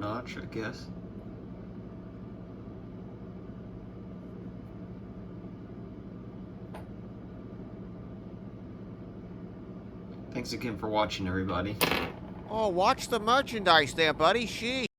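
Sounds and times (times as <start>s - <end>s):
motor or fan humming: 0.0s - 14.9s.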